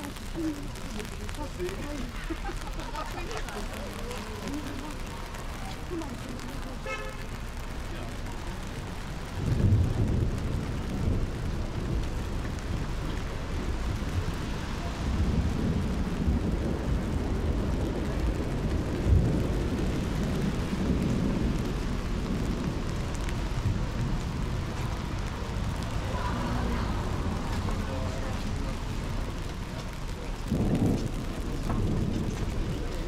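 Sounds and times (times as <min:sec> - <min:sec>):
rain on street: 0:00.0 - 0:33.0.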